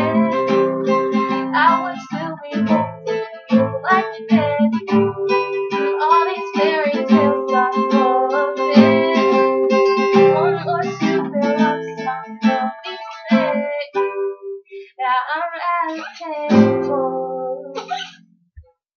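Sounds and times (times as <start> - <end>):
acoustic guitar playing: 0.0 - 18.3.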